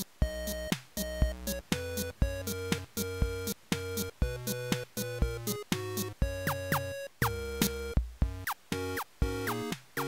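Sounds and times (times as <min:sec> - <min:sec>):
electronic background music: 0:00.0 - 0:10.0.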